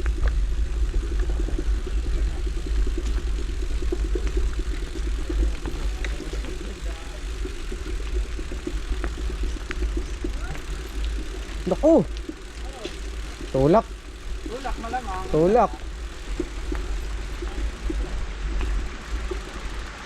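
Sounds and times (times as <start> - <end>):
bike rattling: 0.0 - 20.0
faint clicks: 0.0 - 20.0
wind rumbling on microphone: 0.0 - 20.0.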